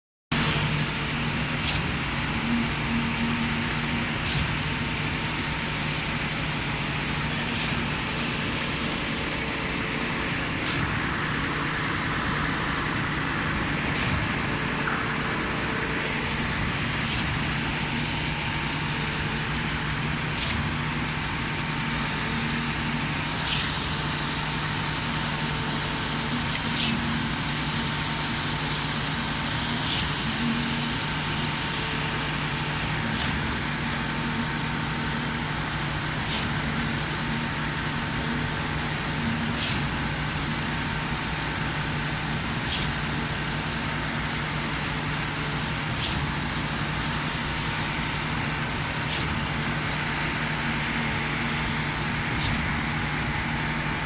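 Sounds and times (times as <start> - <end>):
concrete pump running: 0.3 - 54.0.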